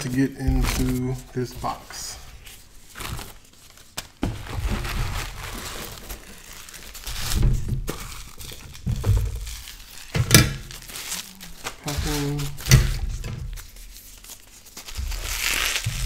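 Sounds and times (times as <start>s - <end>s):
packing material crinkling: 0.0s - 16.0s.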